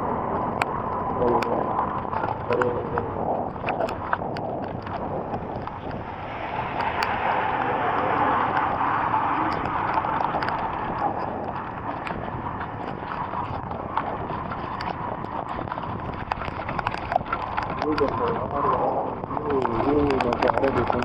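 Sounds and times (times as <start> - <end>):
heavy rain pouring: 0.0 - 21.0
raindrops ticking on surface: 0.0 - 21.0.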